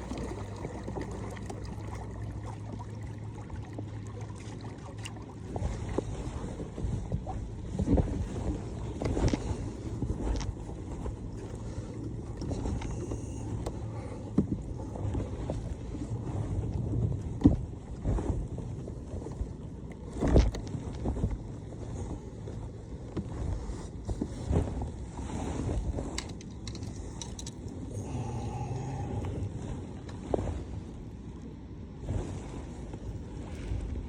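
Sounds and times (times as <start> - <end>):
water lapping against kayak hull: 0.0 - 34.0
wind rumbling on microphone: 0.0 - 34.0.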